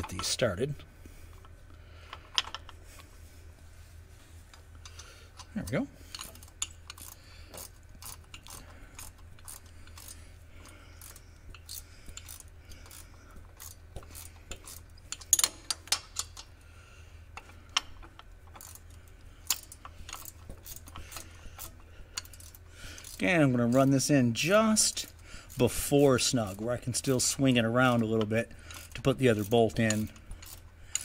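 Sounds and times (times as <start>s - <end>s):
wrench clicking on bolts: 4.8s - 16.6s, 17.4s - 31.0s.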